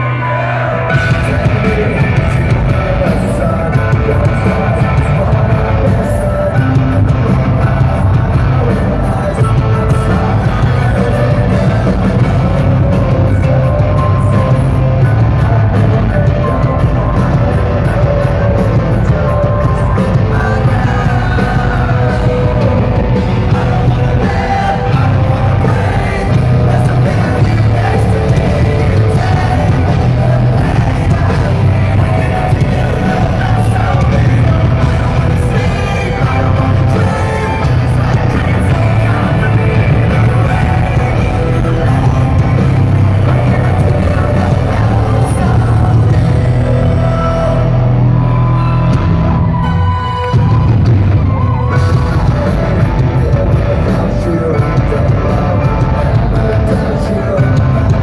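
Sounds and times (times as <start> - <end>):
live hard rock band: 0.0 - 58.0
person singing: 0.0 - 58.0.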